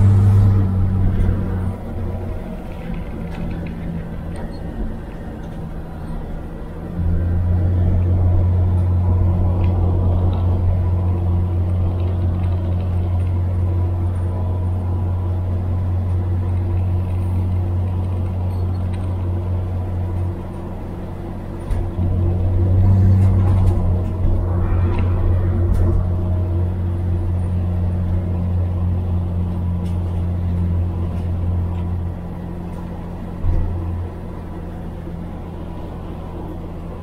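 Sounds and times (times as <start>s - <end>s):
car engine drone: 0.0s - 37.0s.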